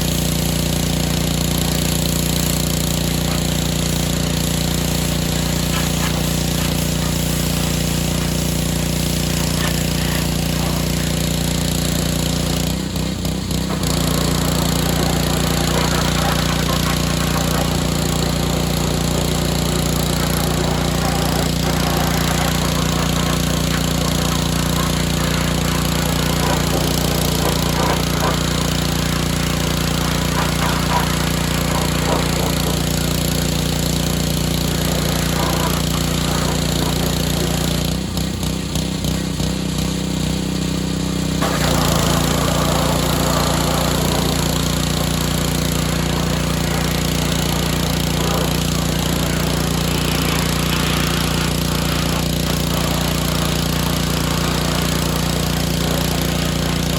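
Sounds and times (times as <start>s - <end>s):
pressure washer engine: 0.0s - 56.9s
water spray hissing: 0.0s - 56.9s.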